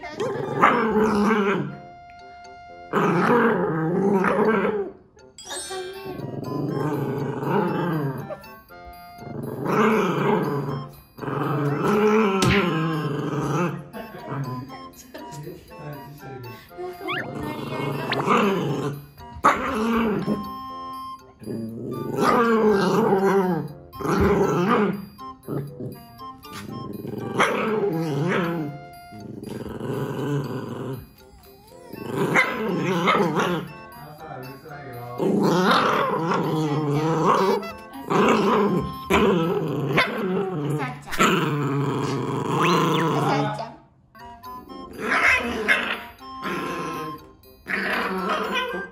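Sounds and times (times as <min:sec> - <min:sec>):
dogs growling and barking: 0:00.0 - 0:01.8, 0:02.9 - 0:05.2, 0:06.1 - 0:14.8, 0:16.6 - 0:20.6, 0:21.4 - 0:43.7, 0:44.8 - 0:48.9
background music: 0:00.0 - 0:48.9.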